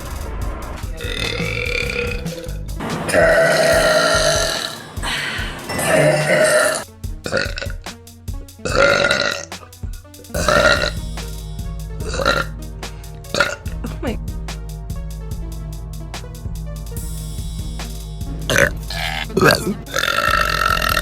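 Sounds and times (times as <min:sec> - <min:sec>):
background music with faint beat: 0:00.0 - 0:21.0.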